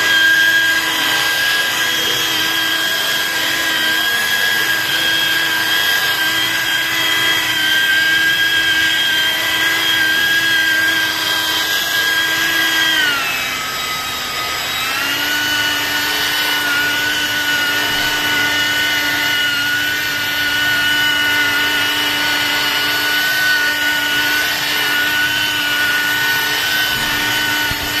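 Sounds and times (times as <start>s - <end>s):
car polisher motor whine: 0.0s - 28.0s.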